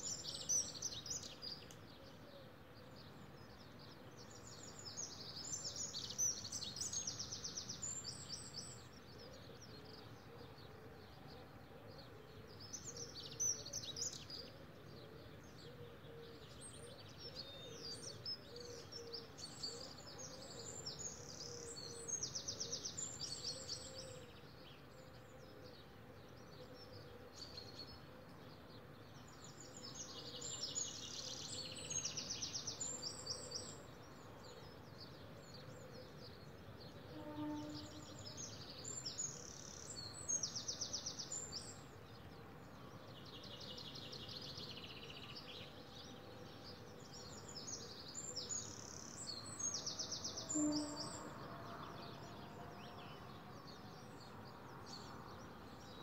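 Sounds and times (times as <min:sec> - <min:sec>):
songbirds twittering: 0:00.0 - 0:56.0.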